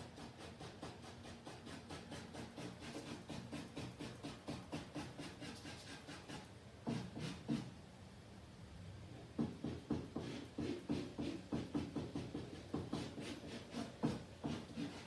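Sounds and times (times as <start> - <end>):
drawing tool hatching strokes: 0.0 - 7.7, 9.6 - 15.0.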